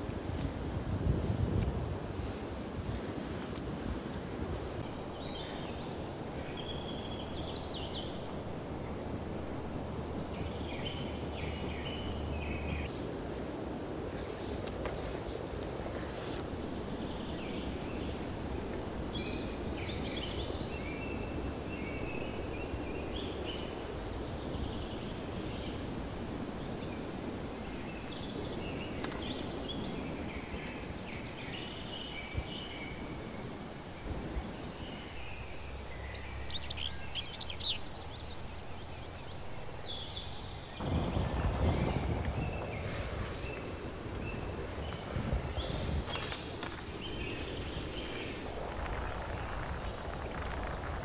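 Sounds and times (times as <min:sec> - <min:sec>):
low background noise: 0:00.0 - 0:51.0
small birds chirping: 0:00.0 - 0:51.0.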